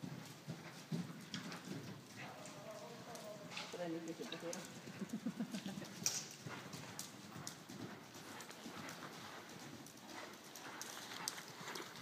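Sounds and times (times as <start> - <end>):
hoofbeats on dirt: 0.0 - 12.0.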